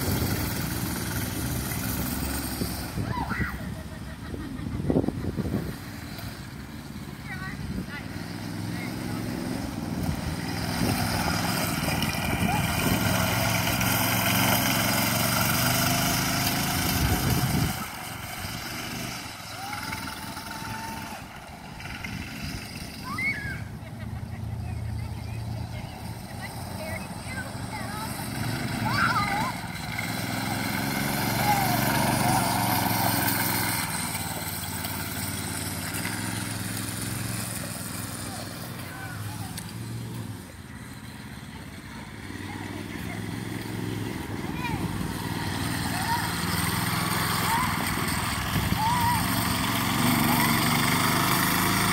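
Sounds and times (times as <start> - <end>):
go-kart engine running: 0.0 - 51.9.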